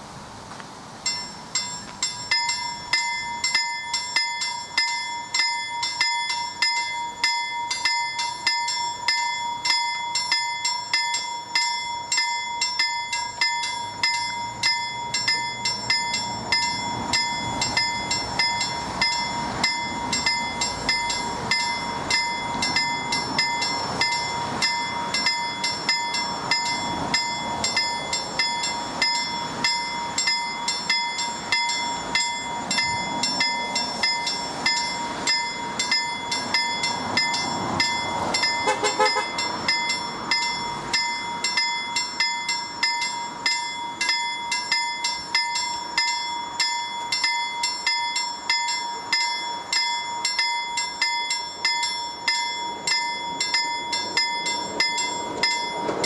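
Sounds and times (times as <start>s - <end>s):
approaching train rumble: 0.0s - 56.0s
level crossing warning bell: 1.0s - 56.0s.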